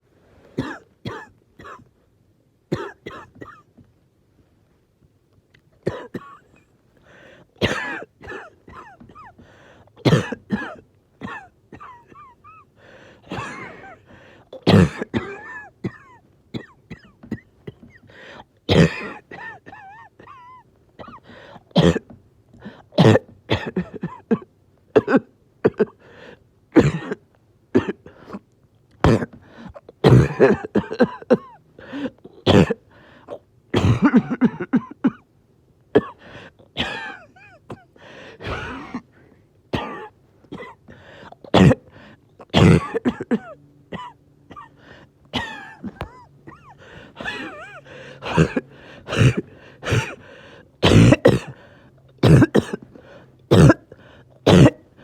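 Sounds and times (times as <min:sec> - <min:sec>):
person coughing: 0:00.6 - 0:01.9, 0:02.7 - 0:03.7, 0:05.8 - 0:06.6, 0:07.6 - 0:09.4, 0:10.0 - 0:12.6, 0:13.2 - 0:26.0, 0:26.8 - 0:28.4, 0:29.0 - 0:35.2, 0:36.0 - 0:39.1, 0:39.8 - 0:55.0.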